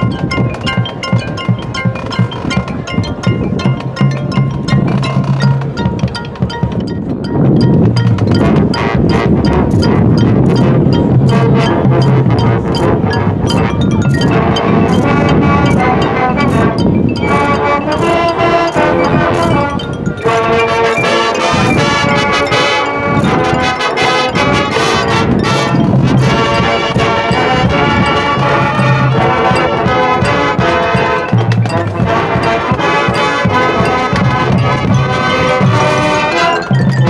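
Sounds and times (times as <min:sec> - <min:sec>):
marching band brass chords: 0:03.8 - 0:37.0.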